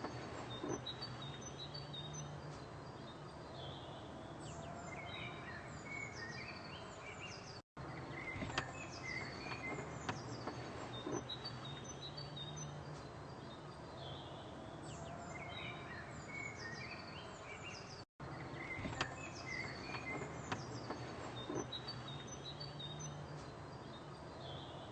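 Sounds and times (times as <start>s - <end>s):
birds chirping: 0.0s - 24.9s
outdoor background noise: 0.0s - 24.9s.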